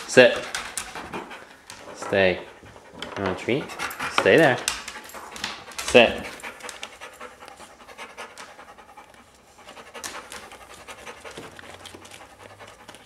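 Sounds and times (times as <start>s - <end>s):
dog panting rapidly: 0.0s - 13.0s.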